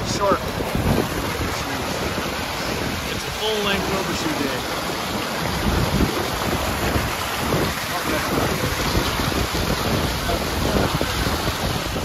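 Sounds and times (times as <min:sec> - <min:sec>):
water rushing over grassland: 0:00.0 - 0:12.0.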